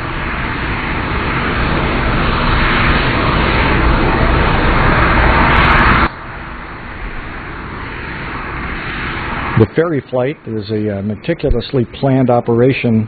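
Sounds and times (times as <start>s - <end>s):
jet engine noise: 0.0s - 13.0s.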